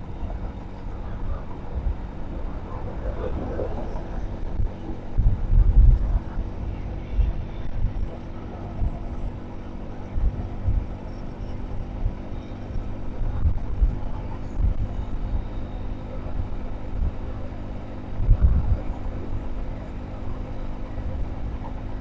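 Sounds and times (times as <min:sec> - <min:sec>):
low rumble and thumps: 0:00.0 - 0:22.0
vehicle engine drone: 0:00.0 - 0:22.0.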